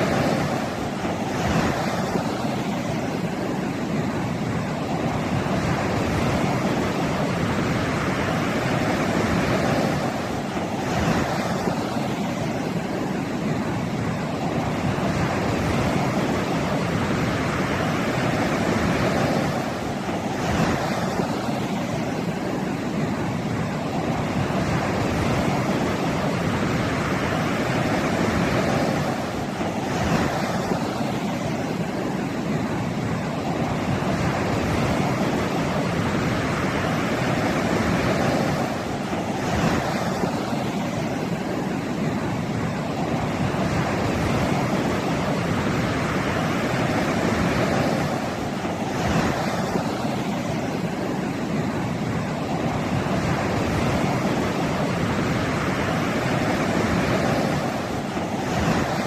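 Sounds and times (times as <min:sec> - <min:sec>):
surf washing up beach: 0:00.0 - 0:59.0
waves crashing: 0:00.0 - 0:59.0.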